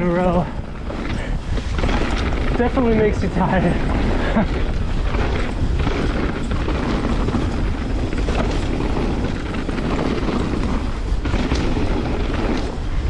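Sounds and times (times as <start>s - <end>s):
bike clattering: 0.0s - 13.0s
knobby tyres rolling: 0.0s - 13.0s
wind on microphone: 0.0s - 13.0s.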